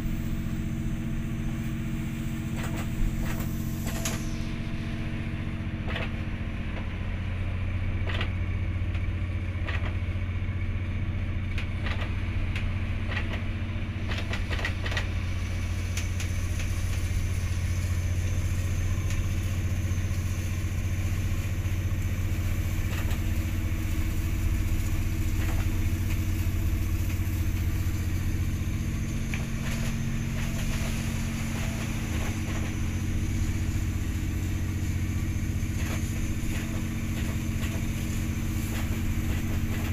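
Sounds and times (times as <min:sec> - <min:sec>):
ship engine drone: 0:00.0 - 0:39.9.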